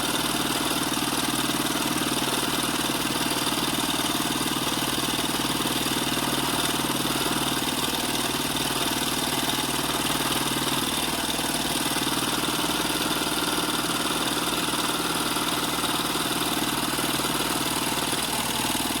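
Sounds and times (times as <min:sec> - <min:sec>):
small engine rapid mechanical beat: 0:00.0 - 0:19.0.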